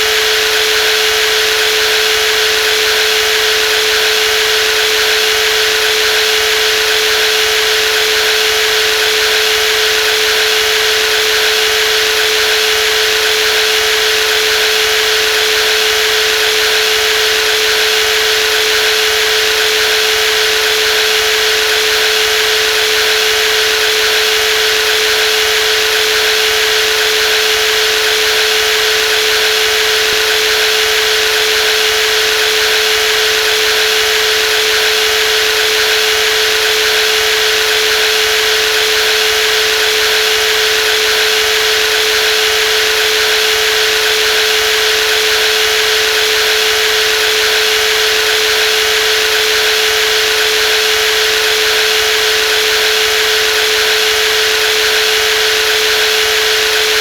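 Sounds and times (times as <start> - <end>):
jigsaw running: 0.1 - 57.0.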